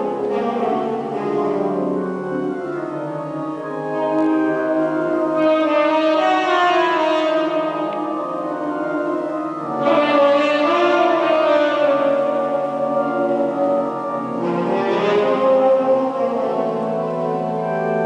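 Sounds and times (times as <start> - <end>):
organ chords: 0.0 - 18.0.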